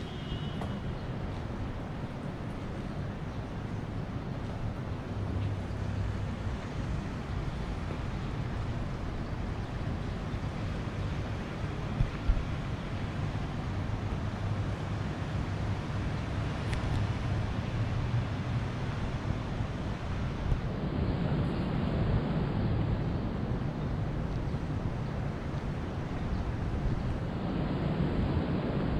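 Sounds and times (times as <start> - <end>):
distant city traffic rumble: 0.0 - 28.9
wind on microphone: 1.1 - 28.9.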